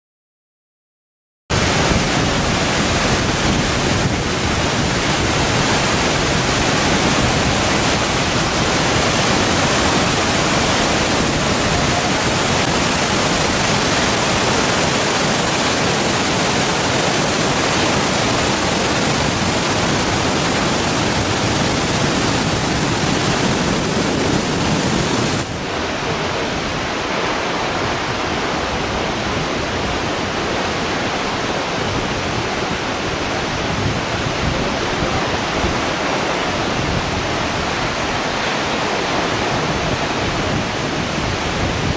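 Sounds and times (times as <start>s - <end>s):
waterfall rushing: 1.5s - 41.9s.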